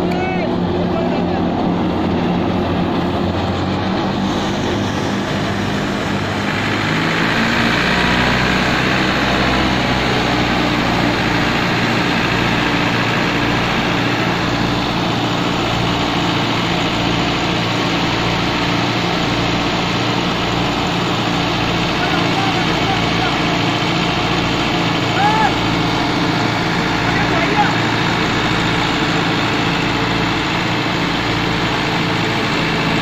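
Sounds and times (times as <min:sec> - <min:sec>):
tractor diesel engine running: 0:00.0 - 0:33.0
thresher rush of straw: 0:00.8 - 0:33.0.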